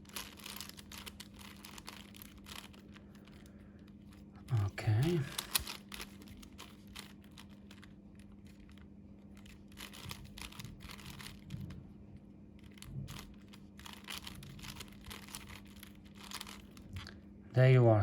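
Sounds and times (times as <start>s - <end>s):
puzzle cube clicking turns: 0.0s - 11.7s, 12.6s - 17.1s
steady low hum: 0.0s - 18.0s.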